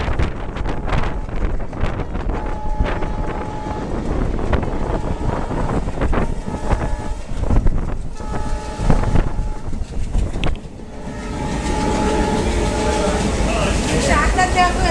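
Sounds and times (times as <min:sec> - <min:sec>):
train horn: 0:00.0 - 0:09.8, 0:10.9 - 0:14.9
train rumbling on track: 0:00.0 - 0:14.9.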